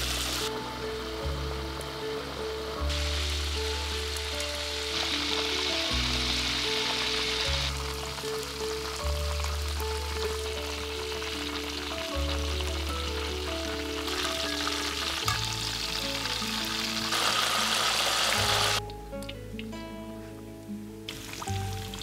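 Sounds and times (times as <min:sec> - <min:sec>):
pastries deep-frying in oil: 0:00.0 - 0:18.8, 0:21.1 - 0:22.0
background music with low bass: 0:00.0 - 0:22.0.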